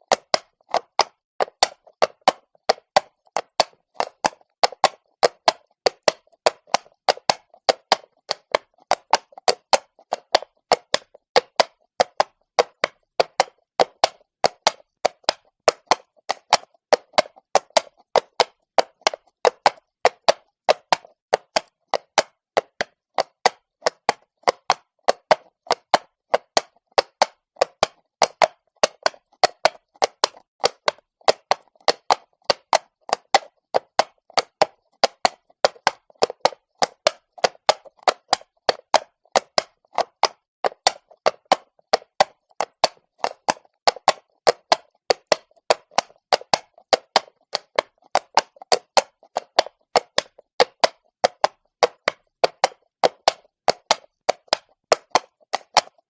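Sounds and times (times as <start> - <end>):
horse hooves on stone: 0.1 - 56.0.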